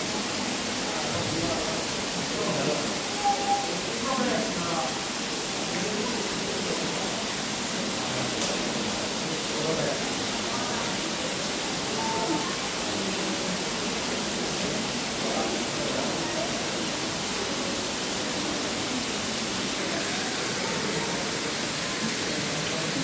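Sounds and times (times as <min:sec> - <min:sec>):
faint voices: 0:00.0 - 0:23.0
rushing water: 0:00.0 - 0:23.0.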